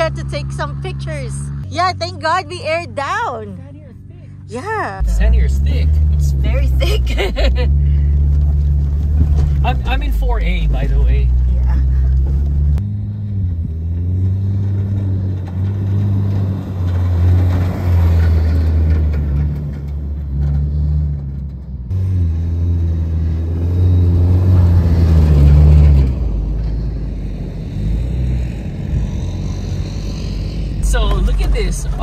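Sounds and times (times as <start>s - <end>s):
engine revving under load: 0.0s - 32.0s.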